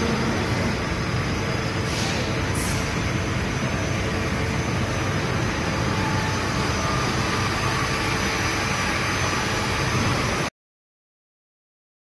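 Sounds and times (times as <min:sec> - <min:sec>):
machining center running: 0:00.0 - 0:10.5.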